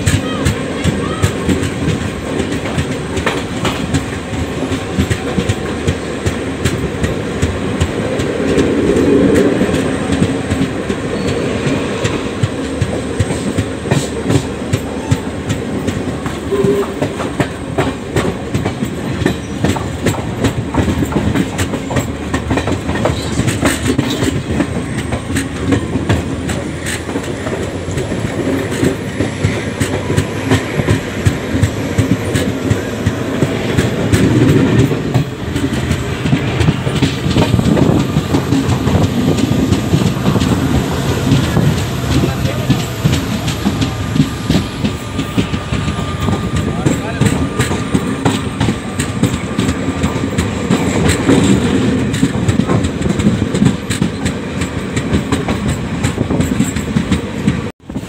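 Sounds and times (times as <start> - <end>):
train wheels rolling on track: 0.0 - 58.0
wheels clicking over rail joints: 0.0 - 58.0.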